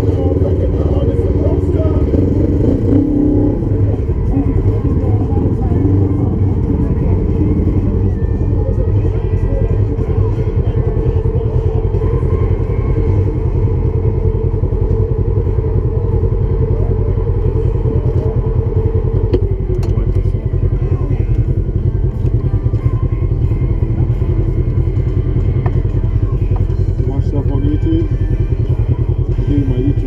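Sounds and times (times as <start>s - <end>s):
utility vehicle engine running: 0.0s - 30.0s.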